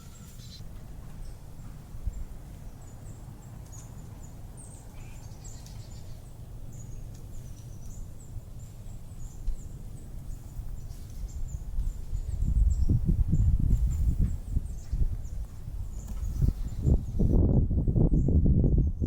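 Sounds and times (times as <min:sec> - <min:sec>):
birds chirping: 0:00.0 - 0:17.4
wind rumble on microphone: 0:00.0 - 0:19.0.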